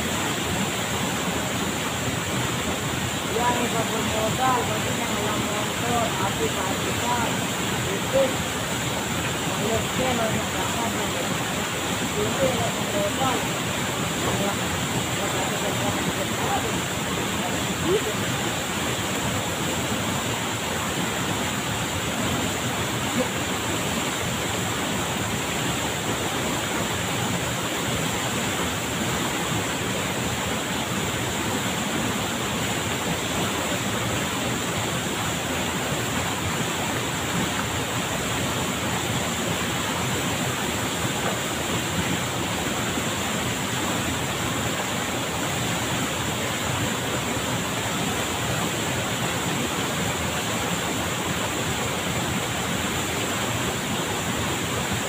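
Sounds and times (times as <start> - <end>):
waterfall rushing water: 0.0 - 55.0.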